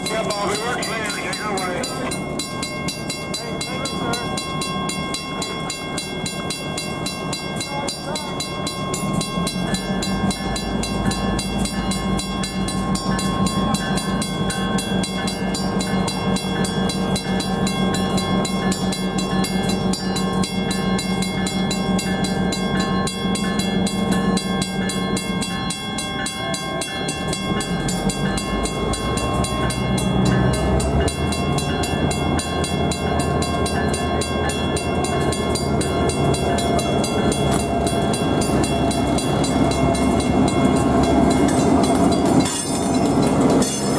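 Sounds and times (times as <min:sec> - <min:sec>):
crossing bell ringing: 0:00.0 - 0:43.9
diesel locomotive engine hum: 0:00.0 - 0:43.9.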